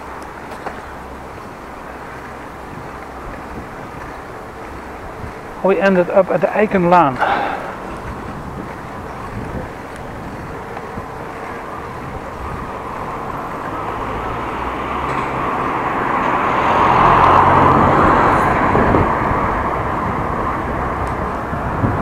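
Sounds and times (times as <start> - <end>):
vehicle passing by: 0.7 - 22.0.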